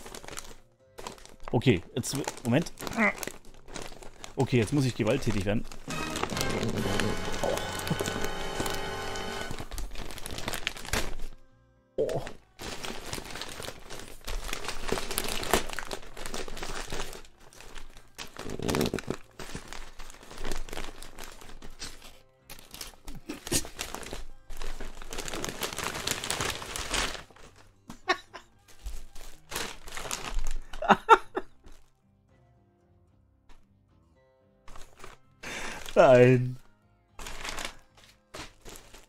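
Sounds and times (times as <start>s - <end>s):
wrapping paper crinkling and ripping: 0.0s - 11.4s, 12.2s - 31.9s, 34.7s - 36.6s, 37.2s - 39.0s.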